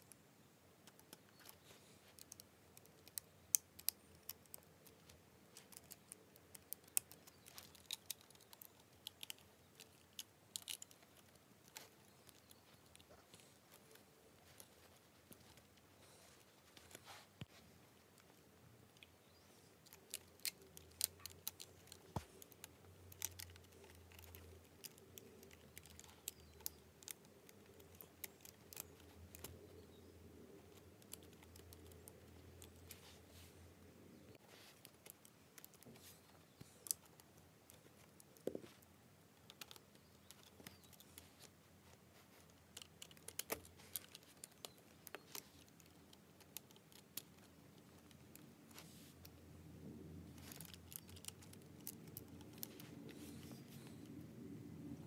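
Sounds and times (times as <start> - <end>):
plastic parts clicking and snapping: 0.8 - 15.8, 18.2 - 29.8, 34.8 - 48.8, 50.3 - 54.1.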